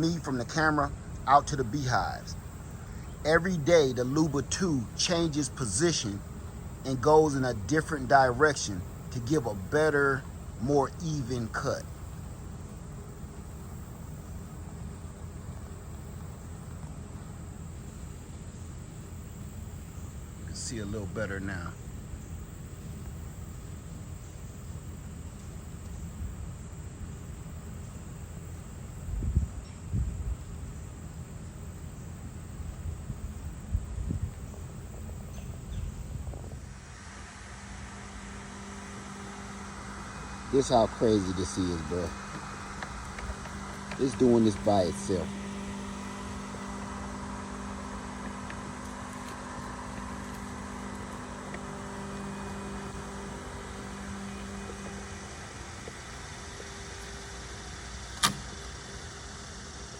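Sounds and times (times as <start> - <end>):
crickets chirping: 0.0 - 59.9
robotic lawnmower motor hum: 0.0 - 59.9.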